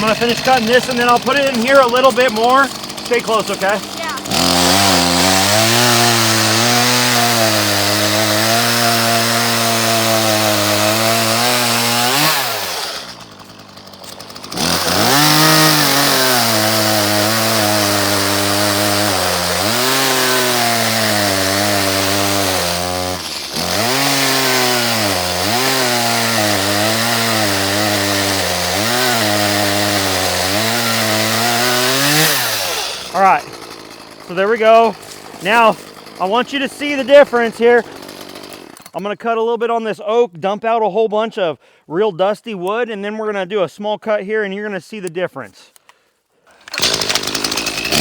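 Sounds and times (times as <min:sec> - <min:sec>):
chainsaw cutting through log: 0:00.0 - 0:39.1, 0:46.4 - 0:48.0.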